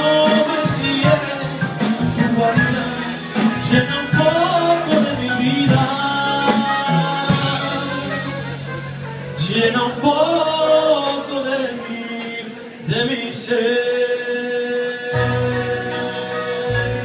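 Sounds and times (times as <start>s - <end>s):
man singing a ballad: 0.0s - 8.6s, 9.3s - 17.0s
jazz big band: 0.0s - 17.0s.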